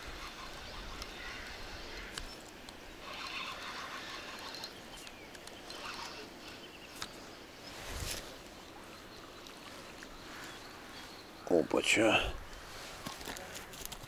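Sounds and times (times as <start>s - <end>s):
faint bird calls: 0.0s - 13.8s.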